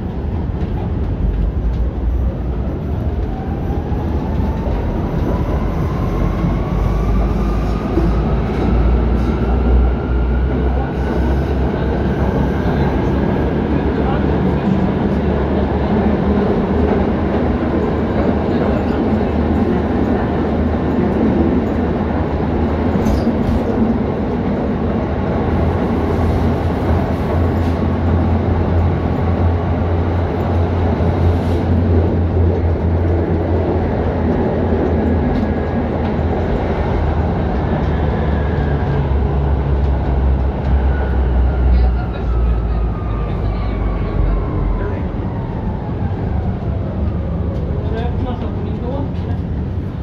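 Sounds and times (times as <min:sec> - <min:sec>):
tram wheels rumbling on rail: 0:00.0 - 0:50.0.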